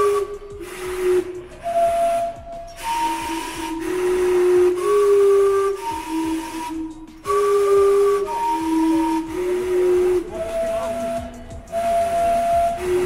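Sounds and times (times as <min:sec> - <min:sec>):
hiss of escaping steam: 0:00.0 - 0:13.0
steam whistles chiming: 0:00.0 - 0:13.0.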